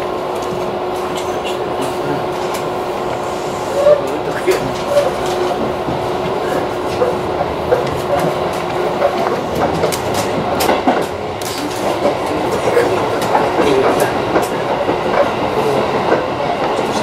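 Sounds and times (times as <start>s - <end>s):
train wheels clattering on rails: 0.0s - 17.0s.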